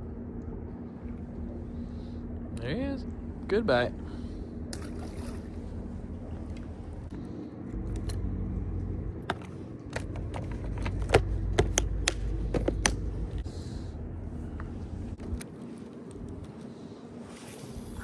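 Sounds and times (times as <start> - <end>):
low rumble: 0.0 - 15.4.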